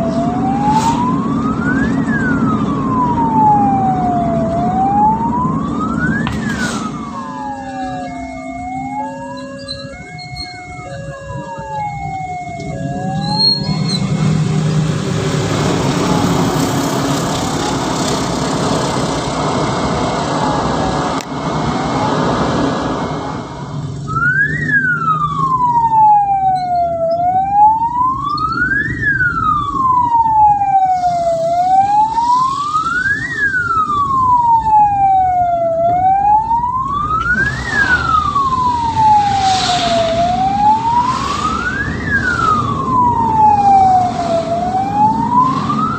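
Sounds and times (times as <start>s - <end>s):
ambulance siren wailing: 0.0s - 45.9s
vehicle road and engine noise: 0.0s - 45.9s.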